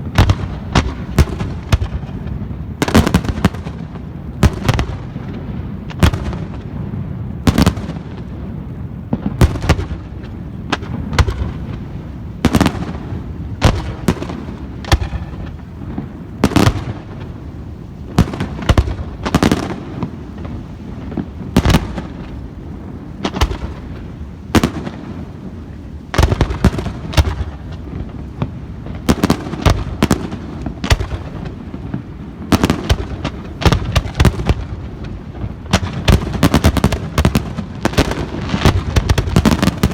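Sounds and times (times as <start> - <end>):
fireworks bangs: 0.0 - 39.9
low rumble of echoing detonations: 0.0 - 39.9.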